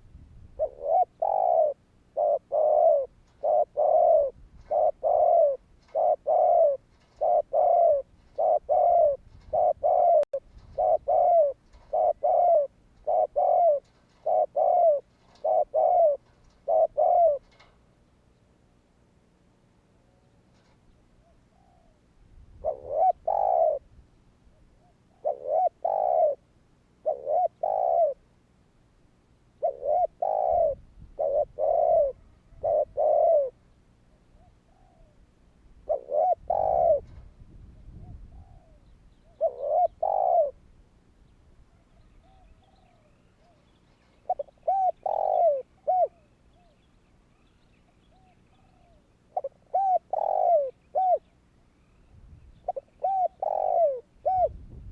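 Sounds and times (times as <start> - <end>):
dove cooing: 0.0 - 17.8, 20.0 - 28.3, 29.5 - 41.0, 41.6 - 46.9, 47.8 - 54.9.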